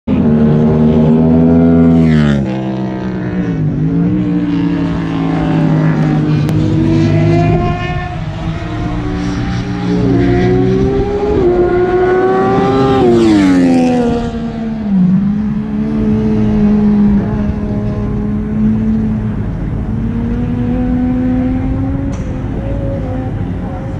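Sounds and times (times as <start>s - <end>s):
cars passing close by: 0.1s - 23.9s
race car engines revving: 0.1s - 23.9s.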